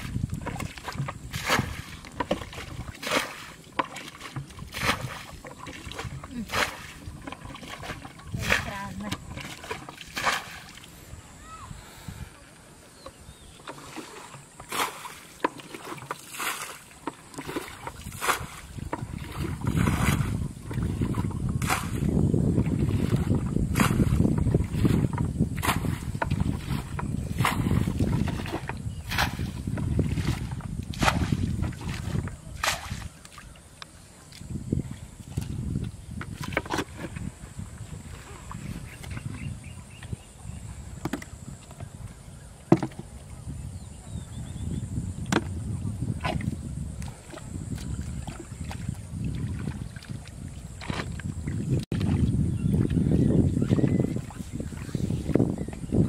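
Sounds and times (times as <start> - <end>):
water splashing in muddy pool: 0.0 - 11.7, 13.5 - 44.0, 44.9 - 56.0.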